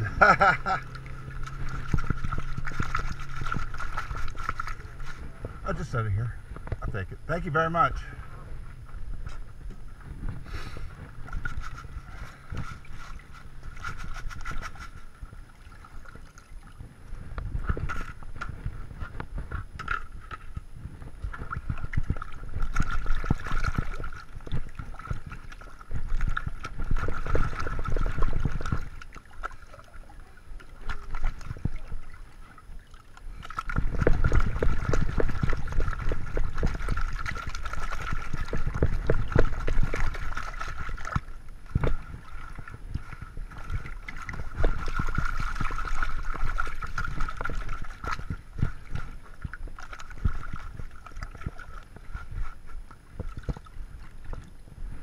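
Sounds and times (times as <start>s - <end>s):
water sloshing: 0.0s - 55.0s.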